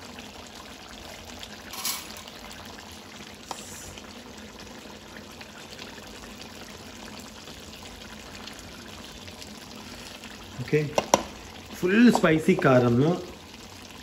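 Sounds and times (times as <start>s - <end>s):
curry bubbling in a pan: 0.0s - 14.0s.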